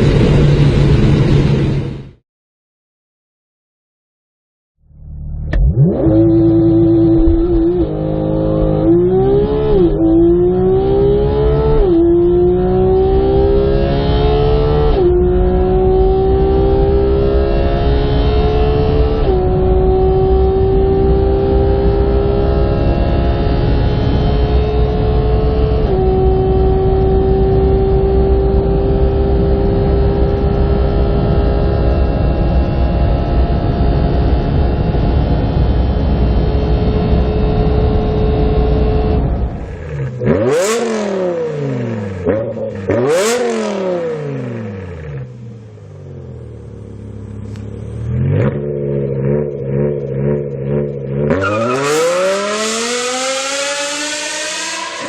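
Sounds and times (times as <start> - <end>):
road and wind rumble: 0.0 - 2.2, 4.9 - 55.0
car engine accelerating through gears: 4.9 - 55.0.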